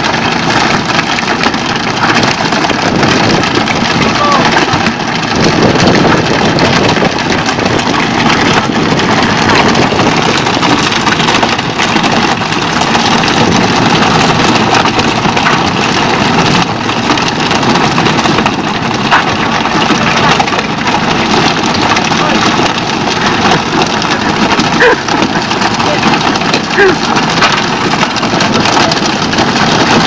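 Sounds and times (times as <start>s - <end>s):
boat engine running: 0.0s - 30.0s
water rushing along hull: 0.0s - 30.0s.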